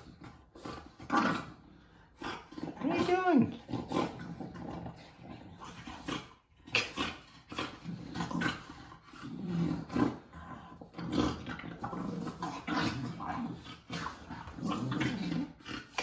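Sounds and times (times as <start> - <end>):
dogs growling: 0.0 - 16.0.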